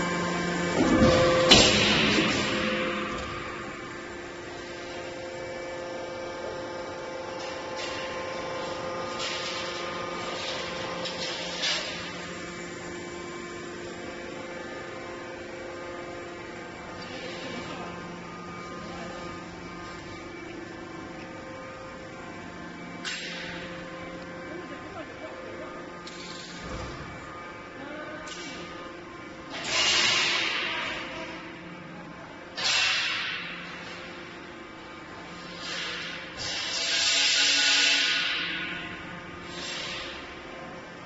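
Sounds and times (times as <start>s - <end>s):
factory machinery humming: 0.0s - 41.0s.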